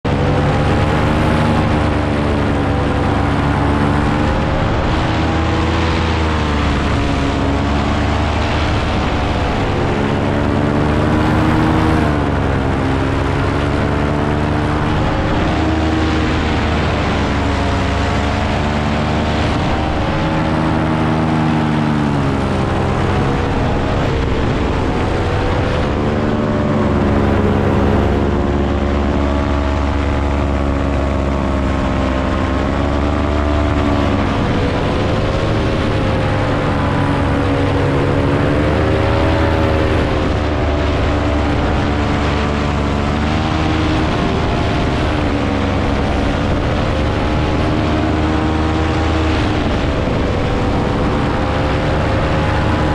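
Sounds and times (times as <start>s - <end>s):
paramotor engine and propeller running: 0.0s - 52.9s.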